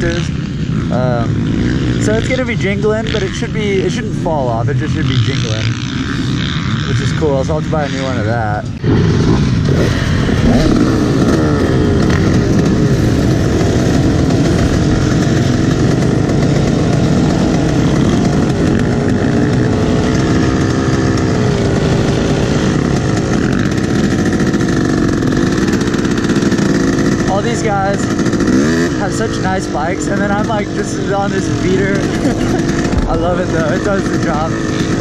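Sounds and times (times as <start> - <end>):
dirt bike engine revving: 0.0 - 35.0
other motocross bikes: 0.0 - 35.0.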